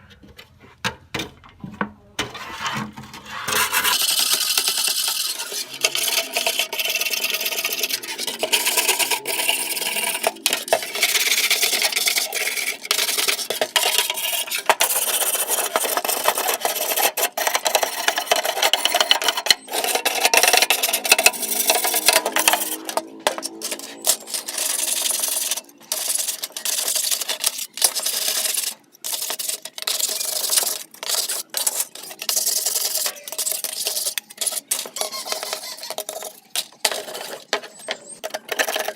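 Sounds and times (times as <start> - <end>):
abrasive scraping metal: 2.2 - 38.9.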